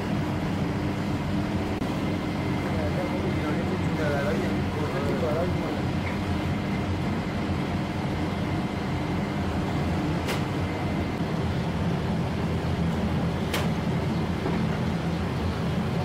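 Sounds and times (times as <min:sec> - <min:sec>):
oven humming: 0:00.0 - 0:16.0.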